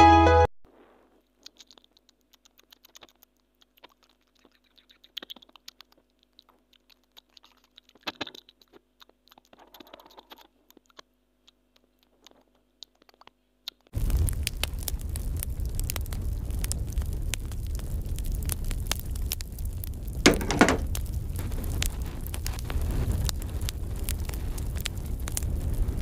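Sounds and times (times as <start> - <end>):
squirrel gnawing and crunching: 1.2 - 25.7.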